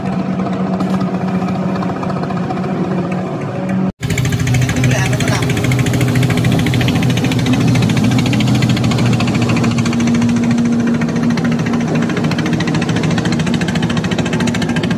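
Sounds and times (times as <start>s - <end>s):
boat engine buzzing: 0.0s - 14.9s.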